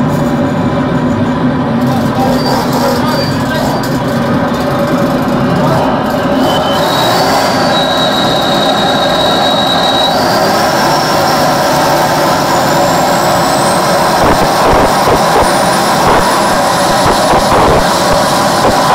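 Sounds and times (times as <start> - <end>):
jet engine roaring: 0.0 - 18.9
thin high whine: 1.8 - 18.9.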